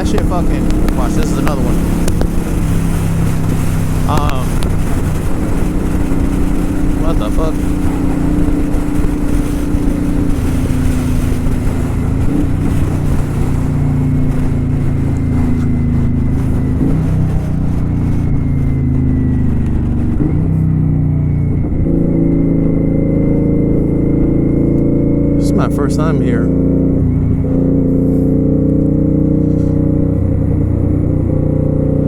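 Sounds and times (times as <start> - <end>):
motorcycle engine running: 0.0 - 32.0
wind rushing over microphone: 0.0 - 32.0.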